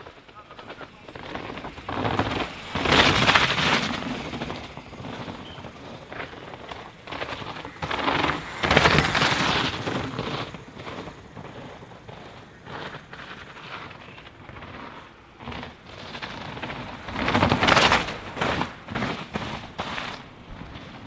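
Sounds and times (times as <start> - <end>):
mountain bikes passing on dirt: 0.0 - 21.0.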